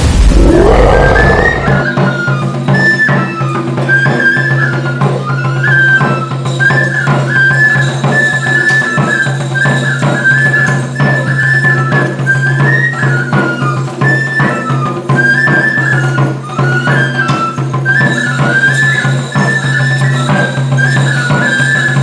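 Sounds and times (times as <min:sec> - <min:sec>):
high flute melody: 0:00.4 - 0:22.0.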